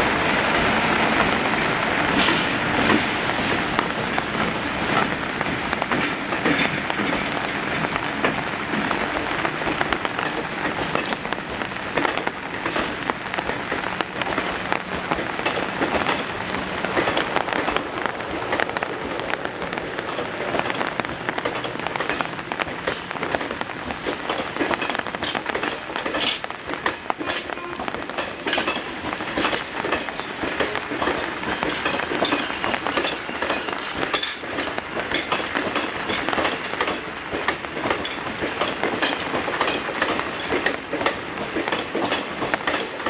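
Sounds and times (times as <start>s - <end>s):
heavy rain falling: 0.0s - 43.0s
raindrops striking close by: 0.0s - 43.0s.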